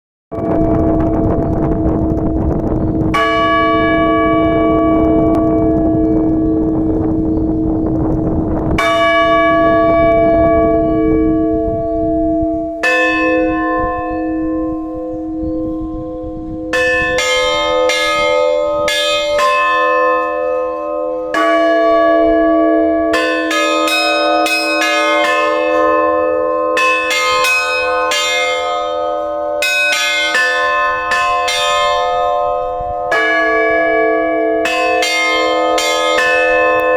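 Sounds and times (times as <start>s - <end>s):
large bell struck slowly: 0.3s - 36.9s.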